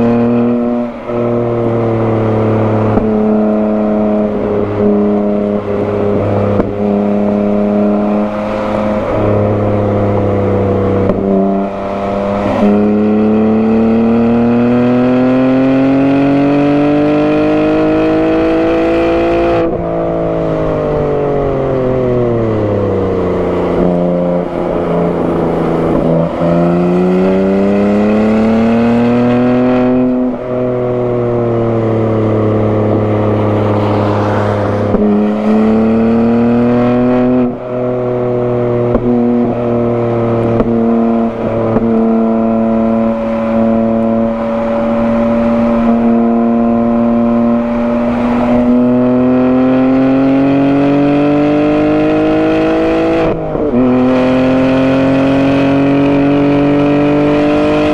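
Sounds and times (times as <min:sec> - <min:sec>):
car engine revving on track: 0:00.0 - 0:57.9.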